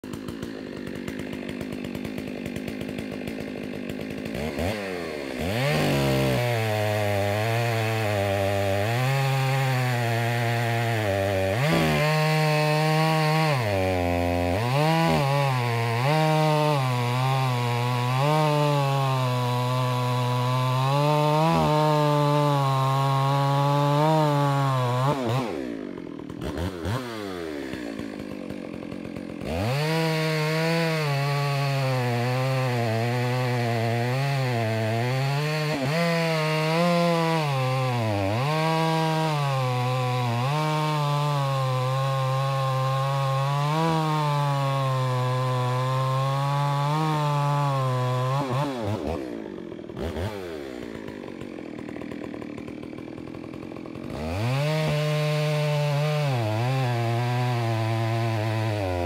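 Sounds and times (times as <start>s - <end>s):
chainsaw revving and cutting log: 0.0s - 59.0s.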